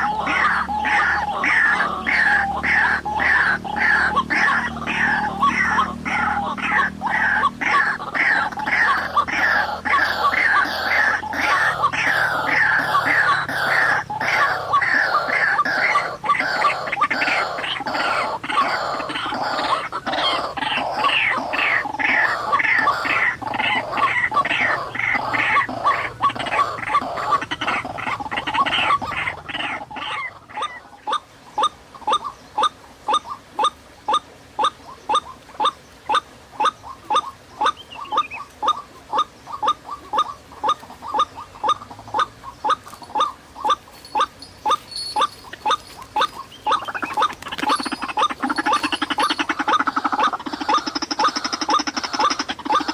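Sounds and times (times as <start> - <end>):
waterhen harsh calls: 0.0 - 52.9.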